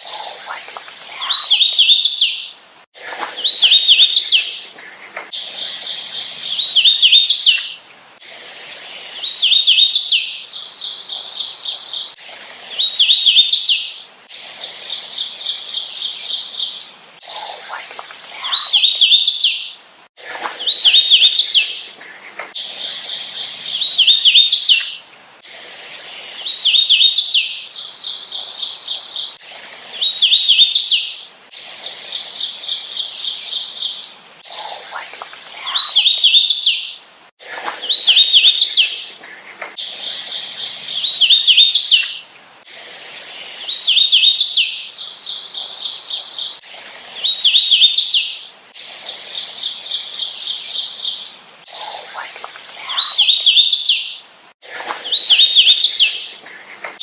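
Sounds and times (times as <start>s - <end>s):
warbler singing: 0.0s - 2.6s, 3.4s - 7.9s, 9.0s - 14.1s, 14.7s - 19.8s, 20.5s - 25.1s, 26.1s - 29.4s, 30.0s - 31.2s, 32.0s - 37.1s, 37.8s - 42.3s, 43.4s - 48.5s, 49.1s - 57.0s.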